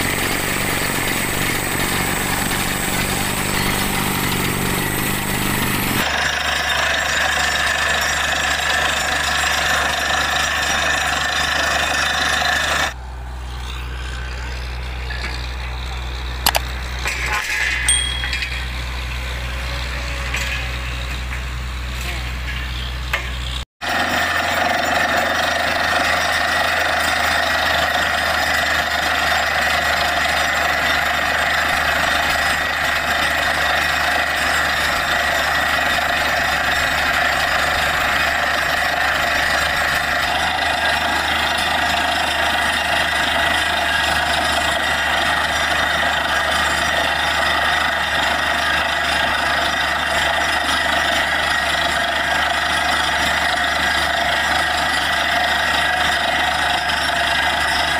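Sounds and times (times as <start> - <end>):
drilling rig engine humming: 0.0 - 57.9
drilling rig machine noise: 0.0 - 57.9.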